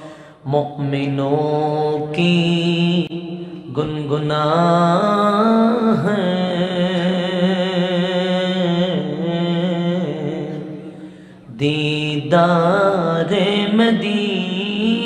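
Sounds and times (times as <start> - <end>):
man singing unaccompanied: 0.4 - 10.9, 11.5 - 15.0.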